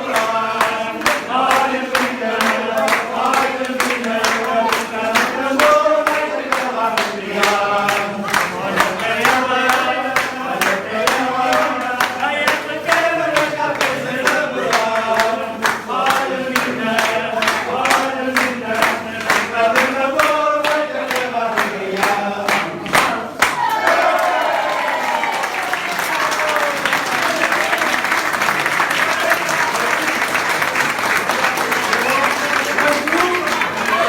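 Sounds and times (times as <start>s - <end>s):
group of voices singing: 0.0s - 26.0s, 26.9s - 34.0s.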